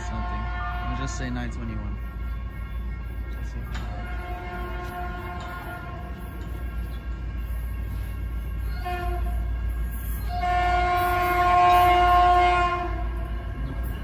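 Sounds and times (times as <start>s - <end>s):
train horn blasts: 0.0s - 14.0s
train rumbling: 0.0s - 14.0s.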